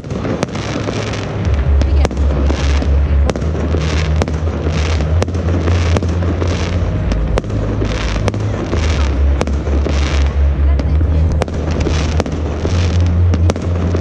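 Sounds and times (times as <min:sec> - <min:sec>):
crackling firework bursts: 0:00.0 - 0:14.0
deep rumble: 0:00.0 - 0:14.0
fireworks bangs: 0:00.0 - 0:14.0.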